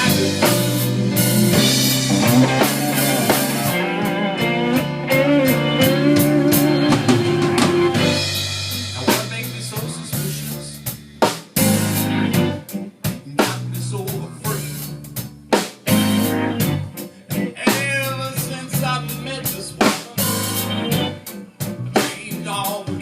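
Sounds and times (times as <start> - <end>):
rock music with drums and guitar: 0.0 - 23.0.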